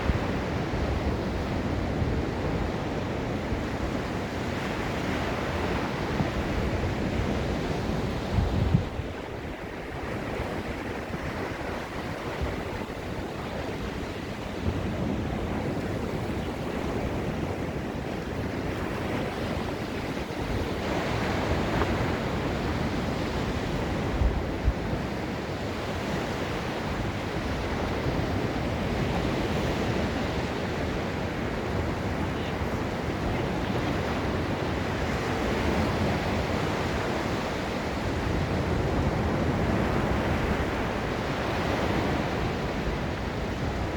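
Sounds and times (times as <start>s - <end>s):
ocean surf washing onto beach: 0.0s - 43.9s
wind buffeting microphone: 0.0s - 43.9s.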